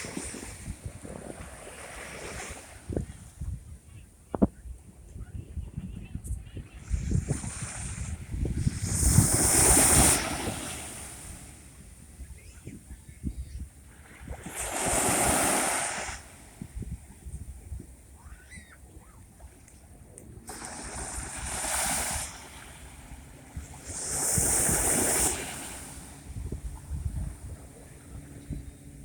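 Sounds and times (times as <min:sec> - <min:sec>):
sea waves breaking on shore: 0:00.0 - 0:03.4, 0:06.7 - 0:29.0
wind buffeting microphone: 0:00.0 - 0:29.0.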